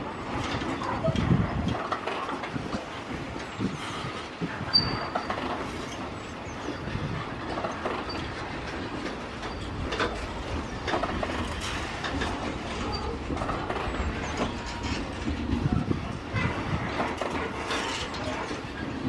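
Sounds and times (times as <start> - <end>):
train wagon clunks: 0.0 - 19.0
train wheels rumbling on rails: 0.0 - 19.0.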